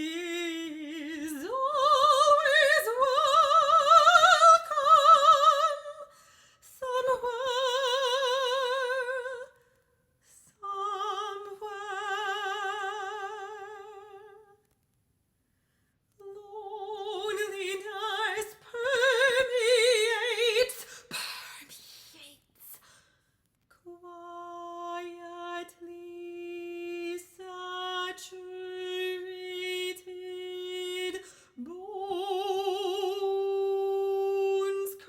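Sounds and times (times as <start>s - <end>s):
woman singing classical: 0.0s - 9.6s, 10.3s - 14.6s, 16.2s - 22.3s, 23.7s - 35.0s.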